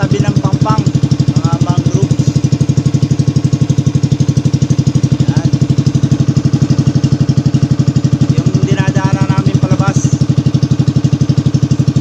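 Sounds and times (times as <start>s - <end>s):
boat engine putt-putting: 0.0s - 12.0s.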